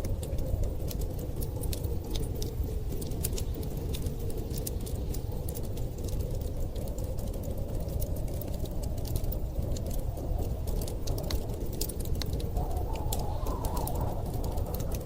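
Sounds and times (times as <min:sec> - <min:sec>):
howling wind: 0:00.0 - 0:15.0
storm wind rumbling: 0:00.0 - 0:15.0
wood fire crackling and popping: 0:00.0 - 0:15.0.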